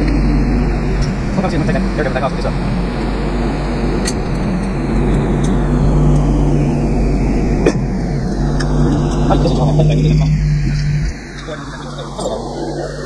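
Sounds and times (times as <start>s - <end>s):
loud machine hum: 0.0s - 13.0s.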